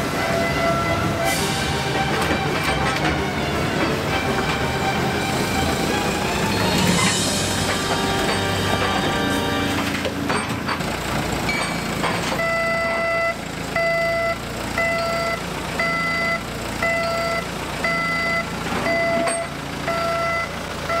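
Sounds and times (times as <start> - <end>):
vehicle reversing alarm beeping: 0.0 - 9.8, 11.5 - 21.0.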